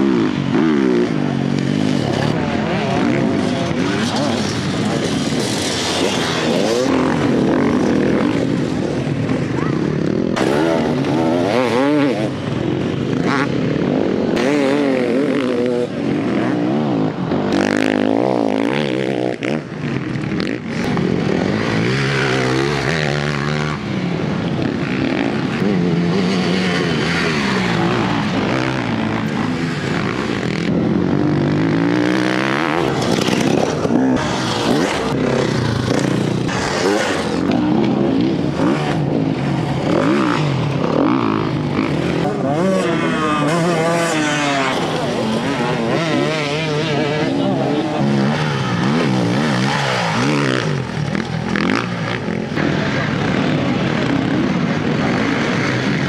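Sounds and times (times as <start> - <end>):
off-road motorcycle engines revving: 0.0 - 56.0.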